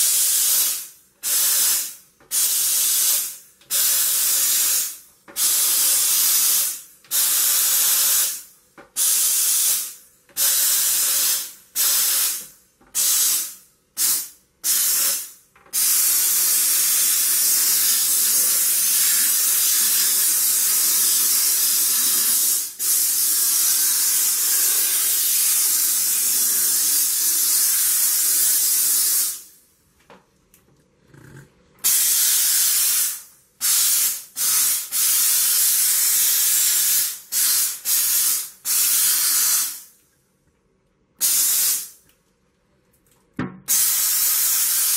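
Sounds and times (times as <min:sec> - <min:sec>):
steam cleaner hissing: 0:00.0 - 0:08.4, 0:09.0 - 0:29.5, 0:31.8 - 0:39.9, 0:41.2 - 0:42.0, 0:43.7 - 0:44.9.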